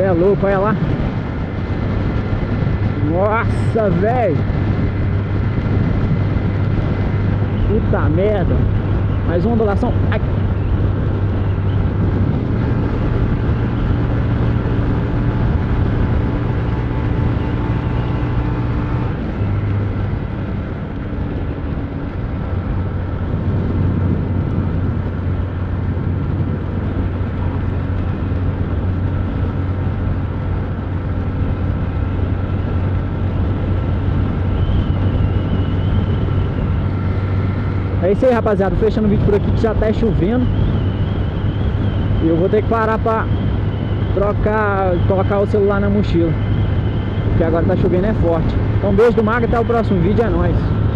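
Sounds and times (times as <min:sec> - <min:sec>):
motorcycle engine running: 0:00.0 - 0:50.9
wind rushing over microphone: 0:00.0 - 0:50.9.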